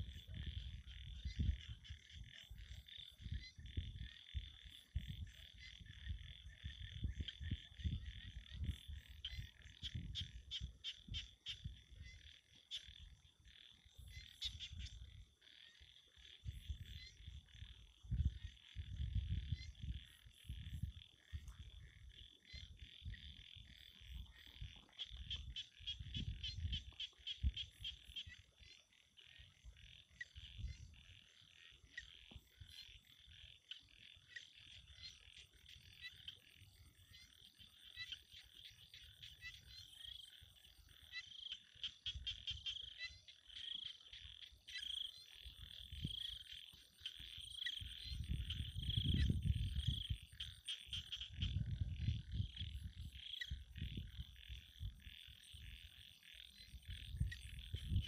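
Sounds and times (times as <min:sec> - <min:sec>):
frogs calling in pulsed trills: 0:00.0 - 0:58.0.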